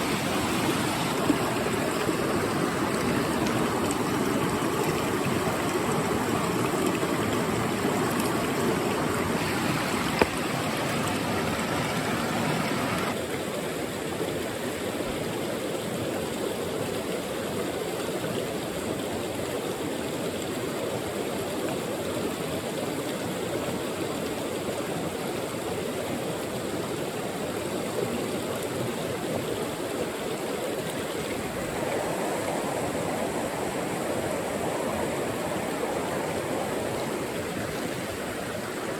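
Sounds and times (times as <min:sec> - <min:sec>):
mountain stream running: 0:00.0 - 0:38.9.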